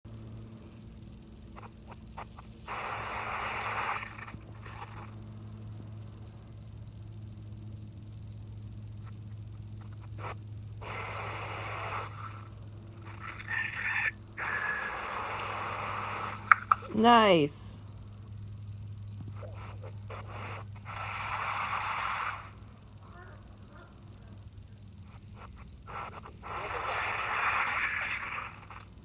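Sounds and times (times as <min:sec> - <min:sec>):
insect chirping: 0:00.1 - 0:29.0
steady low hum: 0:00.1 - 0:29.0.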